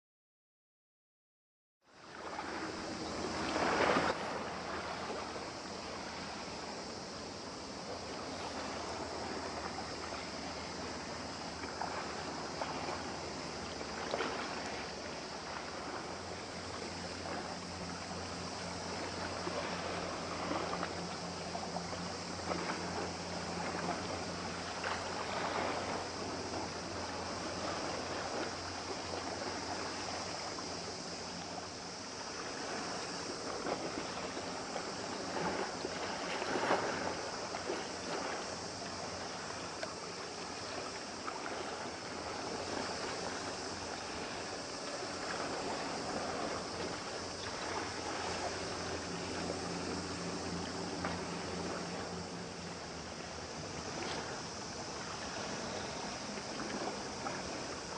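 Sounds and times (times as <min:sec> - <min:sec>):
low boat engine hum: 0:01.8 - 0:57.9
water lapping and splashing: 0:02.0 - 0:57.9.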